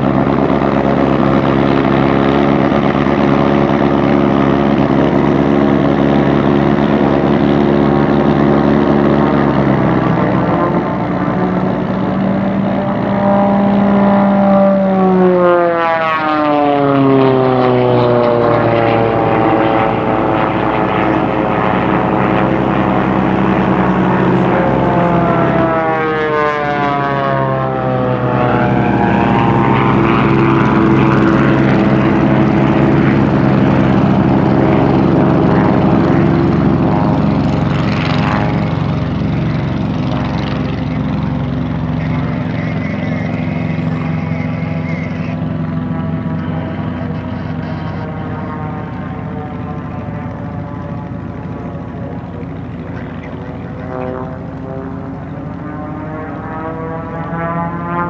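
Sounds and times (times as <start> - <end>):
propeller plane flying past: 0.0 - 58.0.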